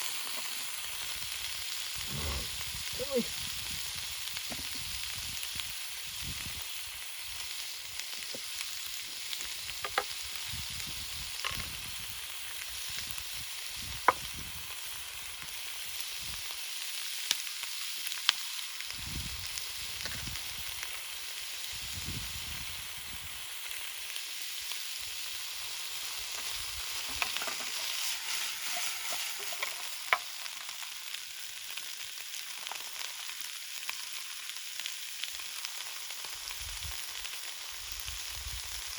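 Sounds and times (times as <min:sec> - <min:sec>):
campfire popping and crackling: 0:00.0 - 0:38.9
food sizzling in a pan: 0:00.0 - 0:38.9.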